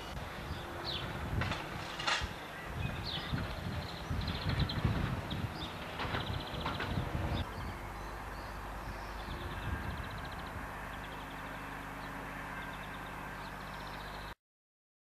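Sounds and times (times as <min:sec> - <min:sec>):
steady low hum: 0:00.0 - 0:14.4
vehicle rumbling over crossing: 0:00.0 - 0:14.4
small birds trilling: 0:02.0 - 0:14.4.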